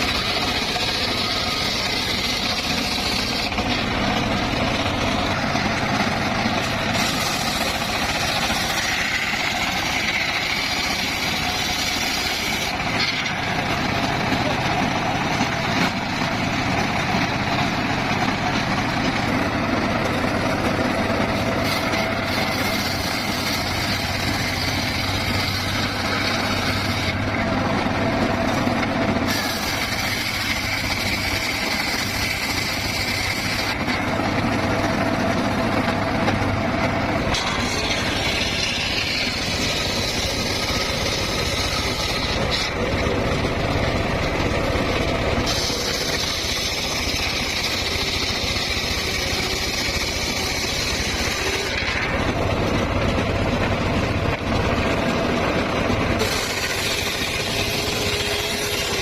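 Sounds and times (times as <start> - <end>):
sawmill engine droning: 0.0 - 59.0.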